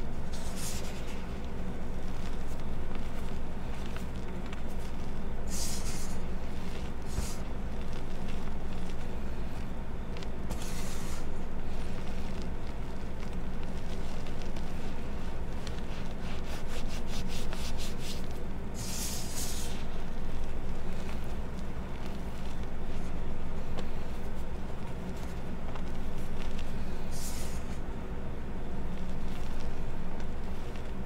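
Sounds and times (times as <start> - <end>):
chalk crunching by hand: 0.1 - 27.8.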